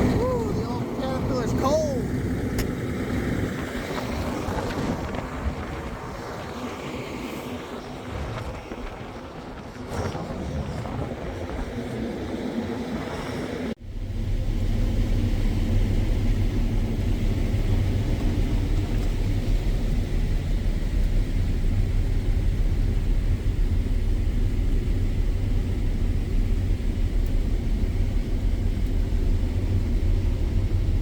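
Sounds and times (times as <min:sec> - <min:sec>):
diesel engine rumbling: 0:00.0 - 0:06.4, 0:10.7 - 0:31.0.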